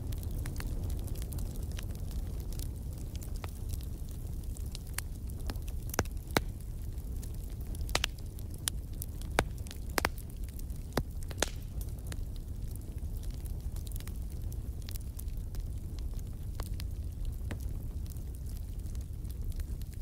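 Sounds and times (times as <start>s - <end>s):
burning logs crackling and popping: 0.0s - 20.0s
fire flames rumbling: 0.0s - 20.0s.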